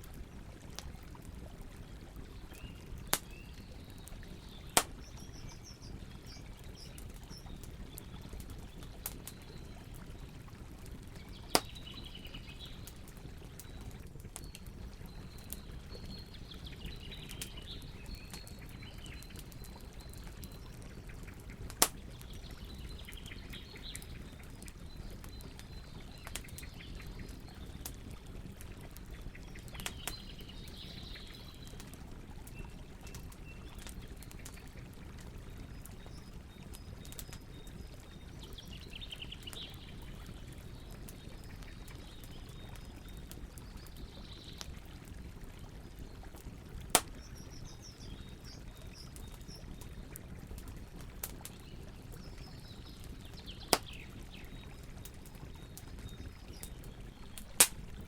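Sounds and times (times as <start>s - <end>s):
campfire crackling and popping: 0.0s - 58.0s
low rumble of burning fire: 0.0s - 58.0s
birds singing: 1.8s - 34.8s, 35.4s - 44.7s, 47.1s - 50.2s, 51.4s - 58.0s.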